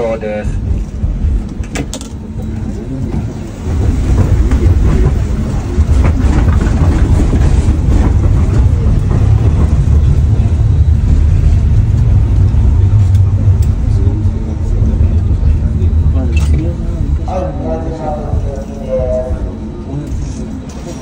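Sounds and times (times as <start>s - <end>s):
streetcar rumbling: 0.0s - 21.0s.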